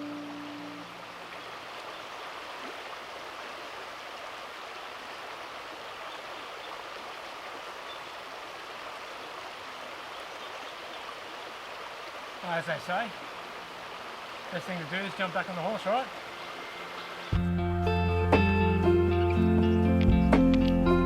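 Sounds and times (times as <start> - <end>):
stream water rushing: 0.0 - 17.5.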